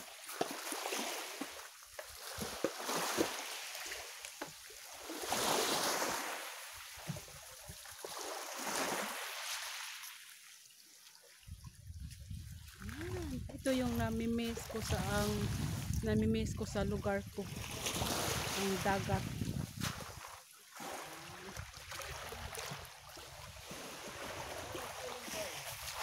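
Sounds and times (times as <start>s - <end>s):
small waves washing over stony shore: 0.0s - 11.5s, 12.5s - 16.1s, 16.8s - 26.0s.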